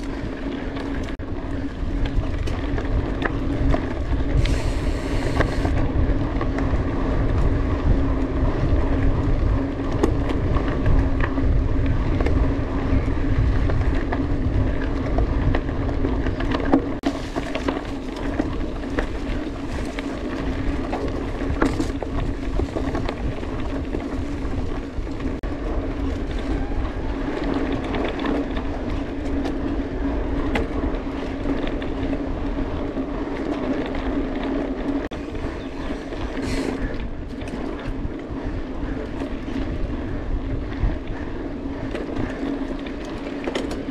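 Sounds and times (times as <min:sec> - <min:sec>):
bike clicks and rattles: 0:00.0 - 0:43.9
bike tyres rolling over dirt: 0:00.0 - 0:43.9
wind rumbling on microphone: 0:00.0 - 0:43.9.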